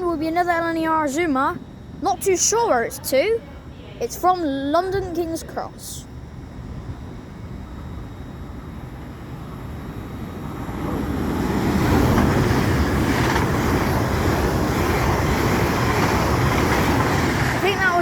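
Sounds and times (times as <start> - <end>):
electric train passing at speed: 0.0 - 18.0.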